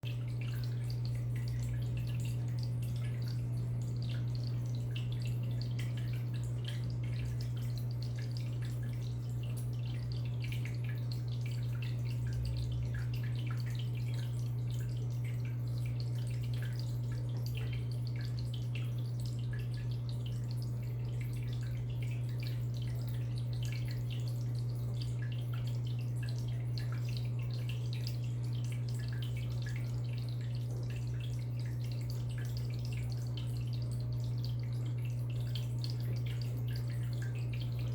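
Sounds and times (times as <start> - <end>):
pump humming: 0.0 - 37.9
water trickling and dripping: 0.0 - 37.9.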